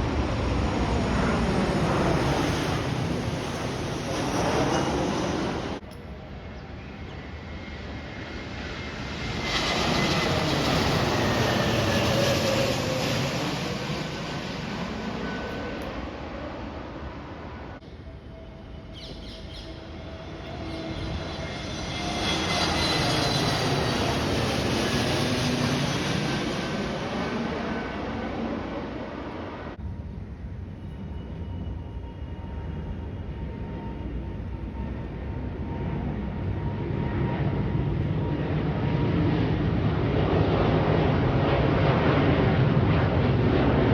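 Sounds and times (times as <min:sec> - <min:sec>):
airplane engine passing: 0:00.0 - 0:43.9.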